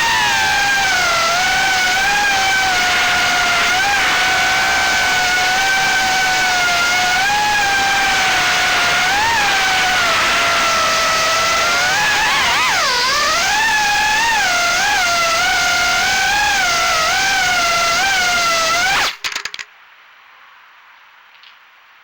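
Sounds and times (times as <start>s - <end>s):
drone motors whining: 0.0s - 19.2s.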